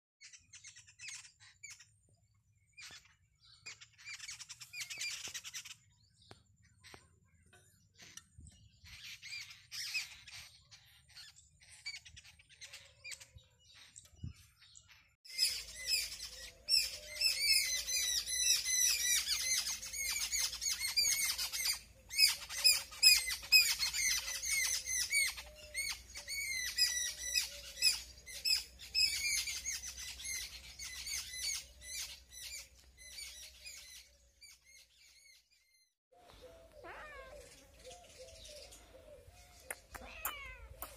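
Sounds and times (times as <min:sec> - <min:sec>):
birds chirping and squawking: 0:00.2 - 0:40.9.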